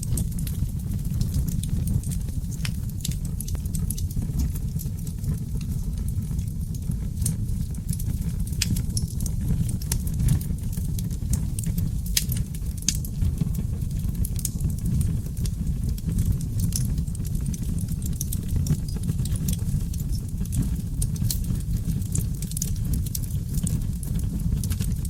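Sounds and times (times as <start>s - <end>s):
burning logs crackling and popping: 0.0s - 25.0s
fire flames roaring: 0.0s - 25.0s.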